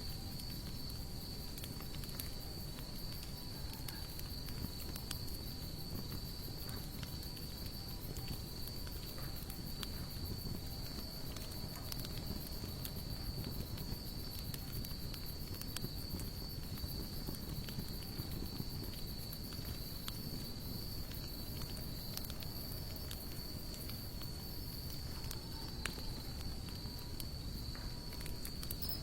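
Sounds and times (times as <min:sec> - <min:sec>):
campfire crackling and popping: 0:00.0 - 0:29.0
crickets trilling: 0:00.0 - 0:29.0.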